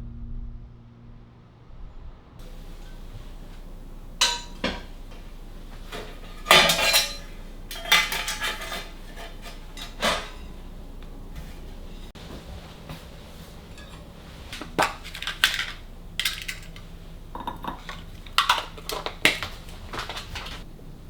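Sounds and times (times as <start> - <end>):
dishes and cutlery clinking: 2.4 - 20.7.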